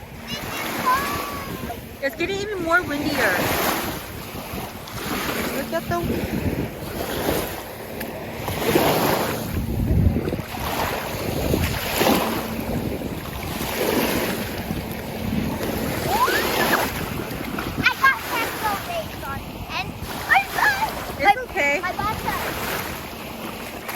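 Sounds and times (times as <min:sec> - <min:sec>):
small waves washing onto shore: 0:00.0 - 0:23.9
wind buffeting microphone: 0:00.0 - 0:23.9.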